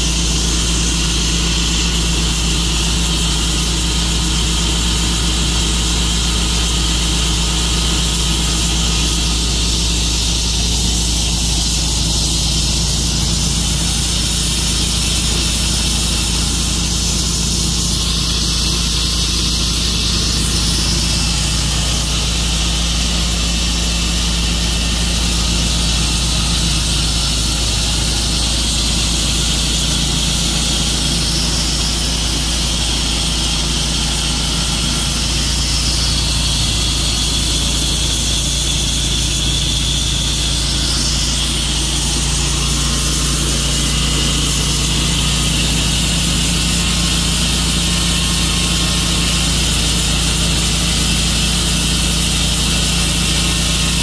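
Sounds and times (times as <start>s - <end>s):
sawmill gas engine running: 0.0s - 54.0s.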